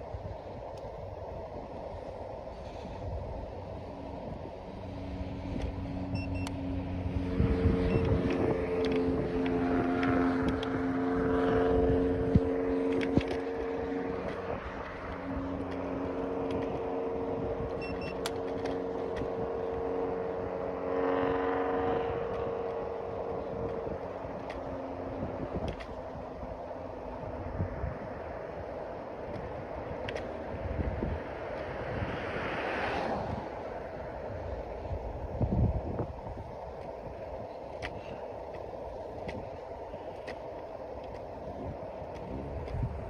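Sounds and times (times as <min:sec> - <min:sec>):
road rumble: 0:00.0 - 0:43.0
wind: 0:00.0 - 0:43.0
scooter motor whining: 0:02.6 - 0:32.2, 0:33.0 - 0:43.0.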